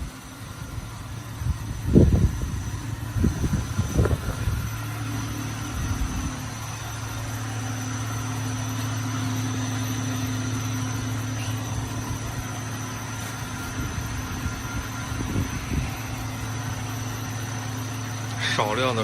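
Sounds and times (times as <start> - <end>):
faint high whine: 0.0 - 19.0
low mechanical hum of machinery: 0.0 - 19.0.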